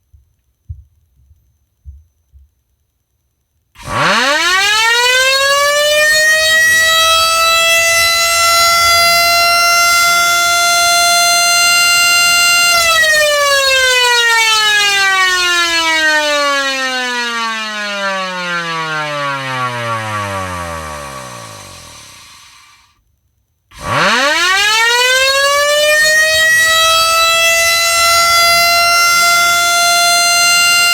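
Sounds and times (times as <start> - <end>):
electric motor siren: 3.8 - 22.9, 23.7 - 30.9.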